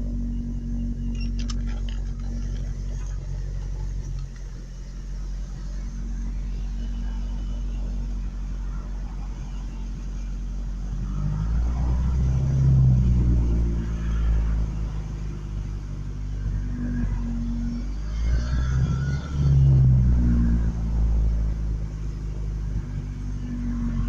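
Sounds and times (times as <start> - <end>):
truck engine idling and revving: 0.0 - 24.0.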